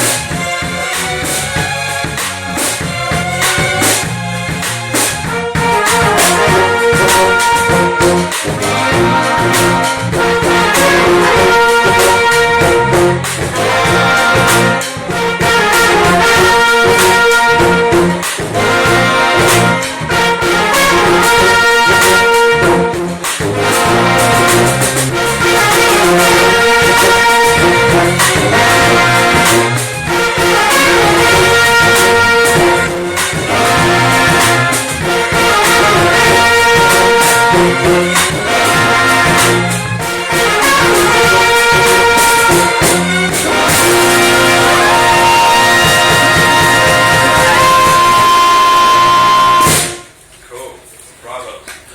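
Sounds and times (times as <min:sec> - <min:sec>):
horns holding long notes: 0:00.0 - 0:50.2
sharp percussion hits: 0:00.0 - 0:50.2
drums: 0:00.0 - 0:50.4
bass: 0:00.0 - 0:51.9.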